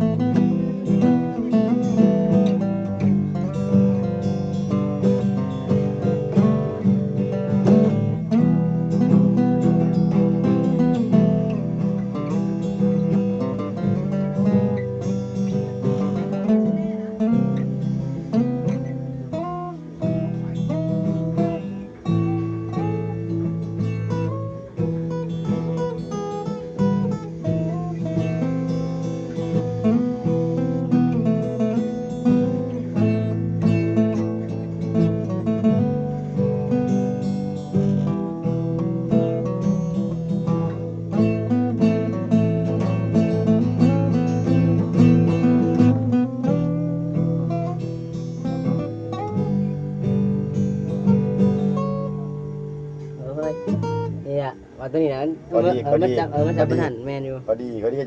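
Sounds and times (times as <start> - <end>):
guitar strumming and picking: 0.0 - 58.0.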